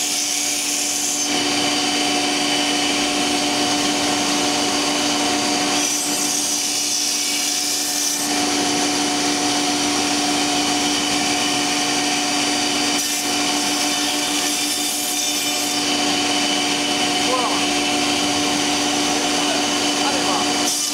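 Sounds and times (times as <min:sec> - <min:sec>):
router spindles whining: 0:00.0 - 0:20.9.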